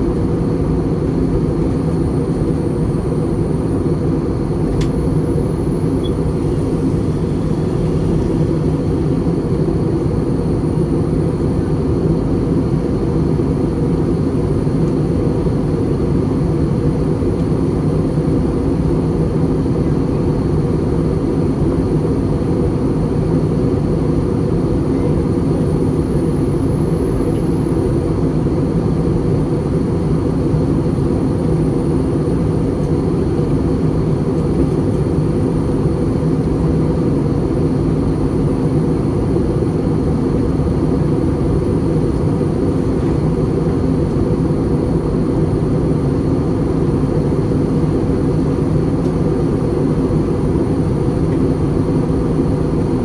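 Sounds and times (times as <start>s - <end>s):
airplane cabin roar in flight: 0.0s - 53.0s.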